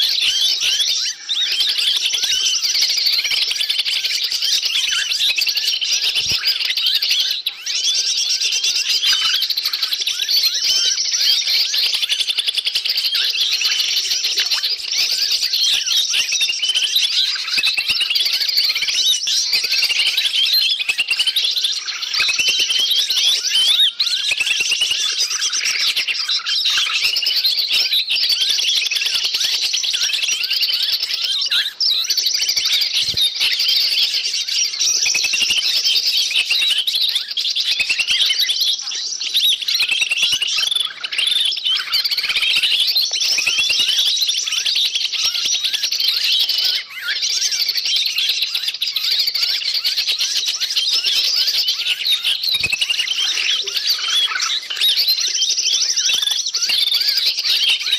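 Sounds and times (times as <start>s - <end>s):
small forest birds chirping: 0.0s - 57.9s.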